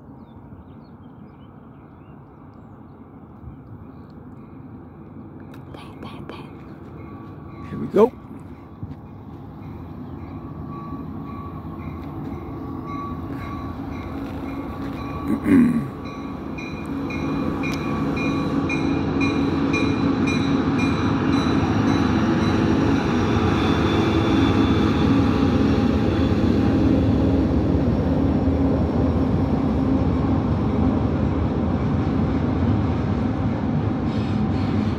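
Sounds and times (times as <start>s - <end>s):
diesel locomotives passing: 0.0s - 34.9s.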